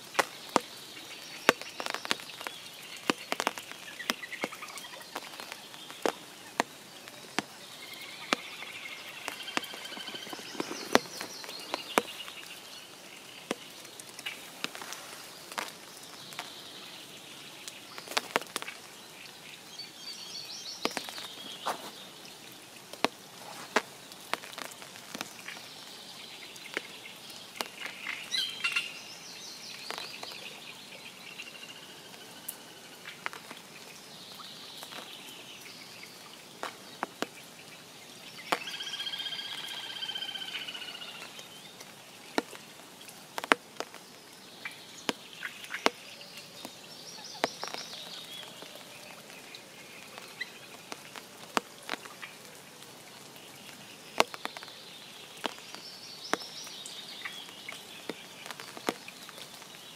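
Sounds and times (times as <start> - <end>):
birds chirping: 0.0 - 59.9
light rain falling: 0.0 - 59.9
sharp raindrops landing close: 0.0 - 59.9.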